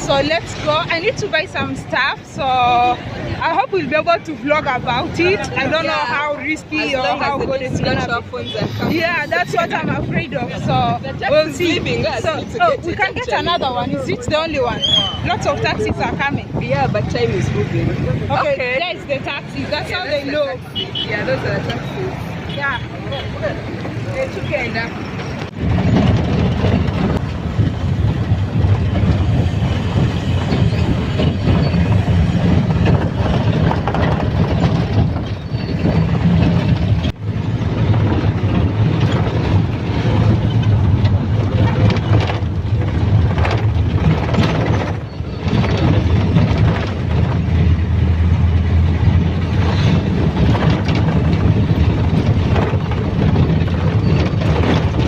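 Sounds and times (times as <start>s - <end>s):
engine and road rumble inside bus: 0.0s - 55.0s.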